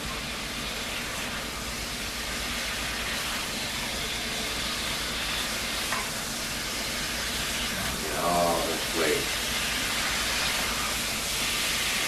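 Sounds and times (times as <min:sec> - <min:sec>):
ribs sizzling in a pot: 0:00.0 - 0:12.0.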